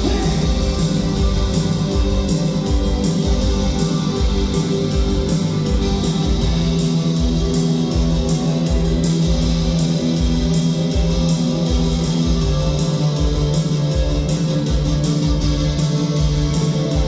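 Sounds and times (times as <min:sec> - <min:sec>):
electric guitar and bass: 0:00.0 - 0:17.0
pounding drum beat: 0:00.0 - 0:17.0.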